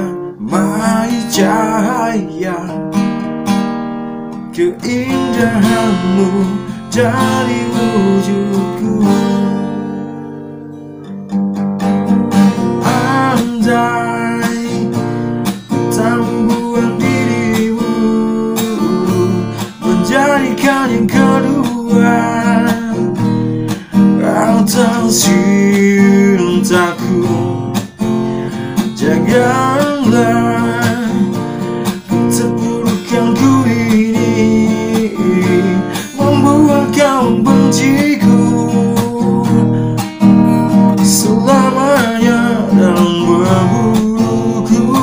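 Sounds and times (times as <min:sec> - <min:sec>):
man singing: 0:00.0 - 0:03.1, 0:04.4 - 0:10.1, 0:12.6 - 0:45.0
acoustic guitar strumming: 0:00.0 - 0:45.0.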